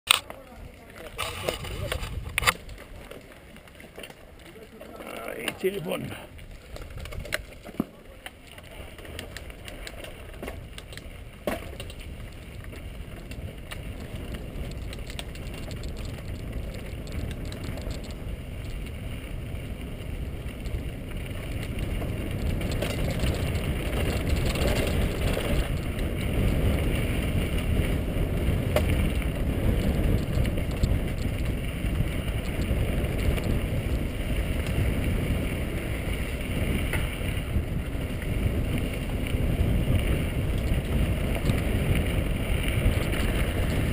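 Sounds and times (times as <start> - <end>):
wind on microphone: 0.1 - 2.8, 8.7 - 43.9
tyres on loose gravel: 0.1 - 43.9.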